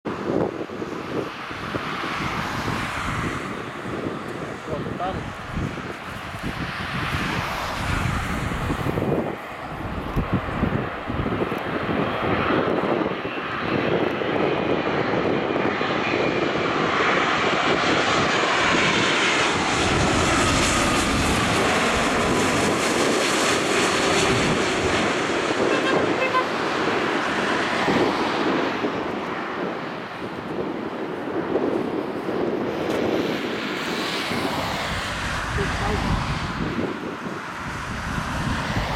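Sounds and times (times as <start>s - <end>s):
jet engines passing overhead: 0.0s - 38.9s.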